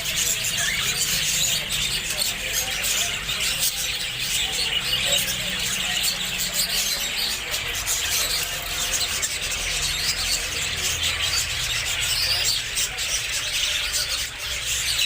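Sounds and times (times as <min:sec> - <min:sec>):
parrots chattering and squealing: 0:00.0 - 0:15.0.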